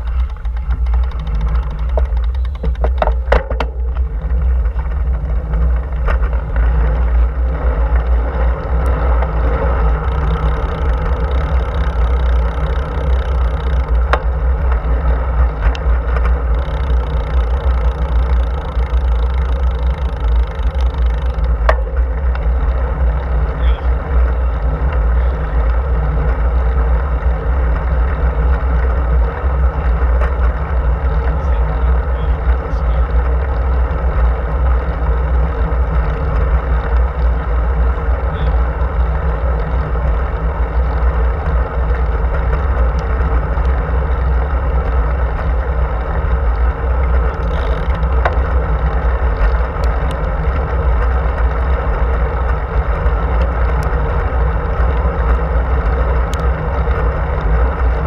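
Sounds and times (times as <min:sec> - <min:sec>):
bike tyres on asphalt: 0:00.0 - 0:58.0.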